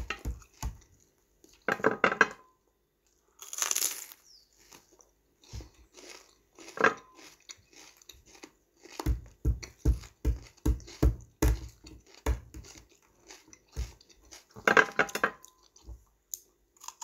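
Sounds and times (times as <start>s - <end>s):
chewing crunchy vegetable: 0.0s - 1.7s, 3.1s - 17.0s.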